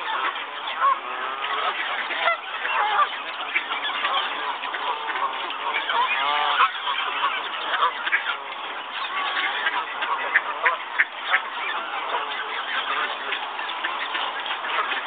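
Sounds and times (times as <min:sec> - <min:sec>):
waterfowl honking: 0:00.0 - 0:15.0.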